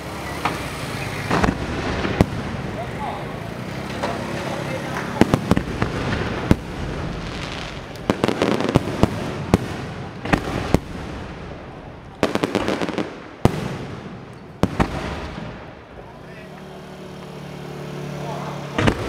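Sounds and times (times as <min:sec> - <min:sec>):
fireworks bursting with sharp bangs: 0:00.0 - 0:19.0
steady rush of noise: 0:00.0 - 0:19.0.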